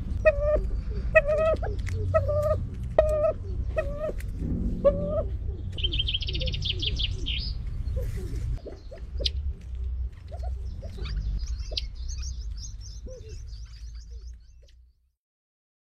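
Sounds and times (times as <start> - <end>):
steady low rumble: 0.0 - 14.4
chicks peeping: 0.0 - 14.7
low soft bird calls: 0.0 - 15.1.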